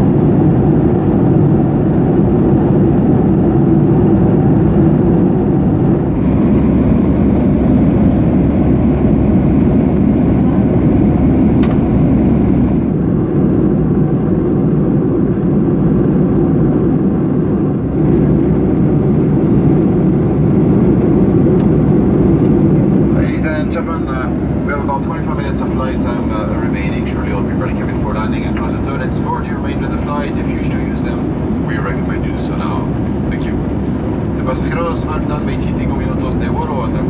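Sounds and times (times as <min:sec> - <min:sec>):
jet airliner cabin roar: 0:00.0 - 0:37.0.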